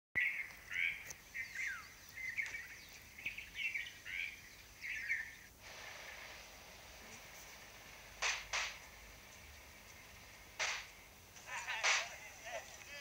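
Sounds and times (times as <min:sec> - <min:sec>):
bird chirping scratchy calls: 0:00.2 - 0:13.0.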